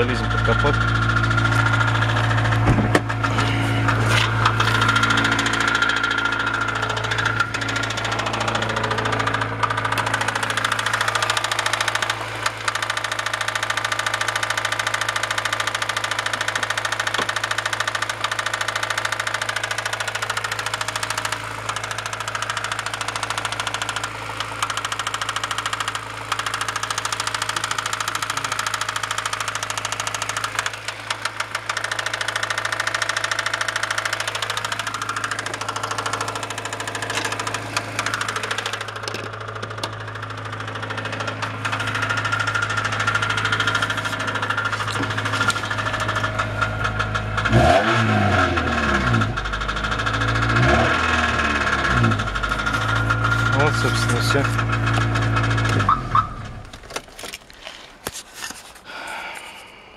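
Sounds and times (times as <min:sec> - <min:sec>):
car engine idling with knock: 0:00.0 - 0:58.2.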